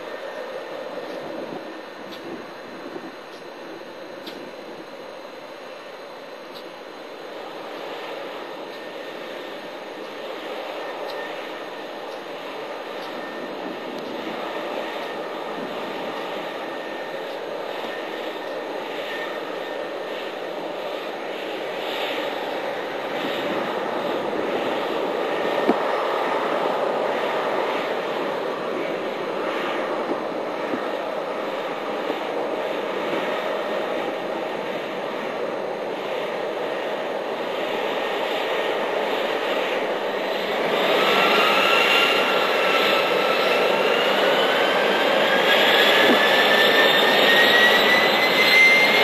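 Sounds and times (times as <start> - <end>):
jet engines rushing hum: 0.0 - 49.0
rising jet engine whine: 0.0 - 49.0.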